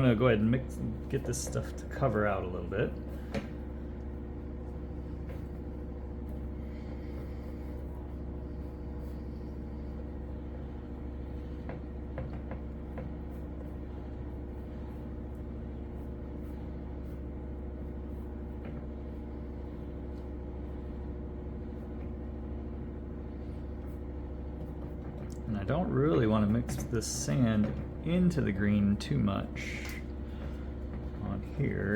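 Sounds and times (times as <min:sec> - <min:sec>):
steady machine hum: 0:00.0 - 0:31.9.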